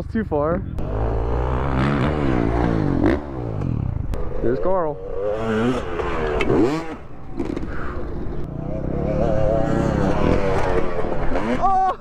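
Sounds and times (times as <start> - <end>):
dirt bike engine revving: 0.6 - 11.7.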